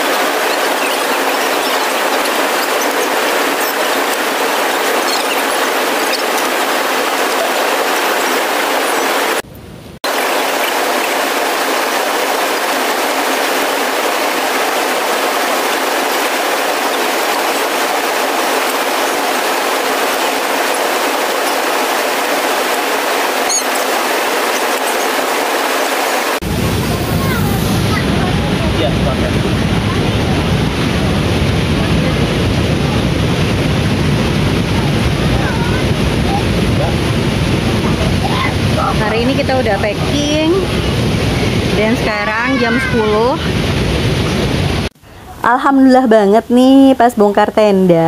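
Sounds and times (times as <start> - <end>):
waterfall rushing: 0.0 - 9.4, 10.0 - 45.0.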